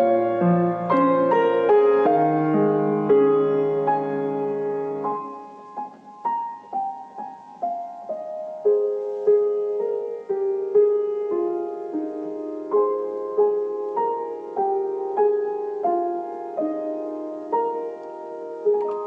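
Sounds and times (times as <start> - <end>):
slow gentle piano melody: 0.0 - 19.0.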